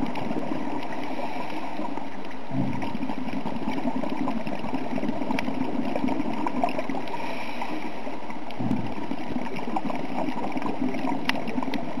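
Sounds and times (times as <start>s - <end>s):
faint crackles: 0.0s - 12.0s
low gurgle: 0.0s - 12.0s
muffled underwater rush: 0.0s - 12.0s.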